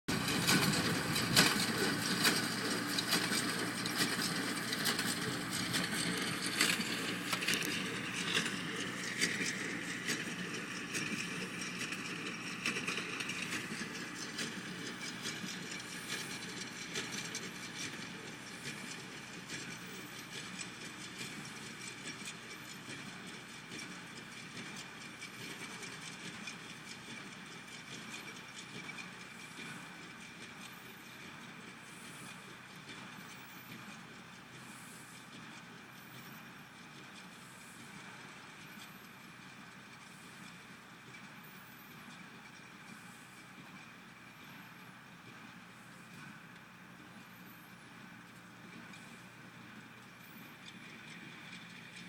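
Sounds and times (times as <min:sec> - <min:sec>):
hay baler clattering and knocking: 0:00.1 - 0:52.0.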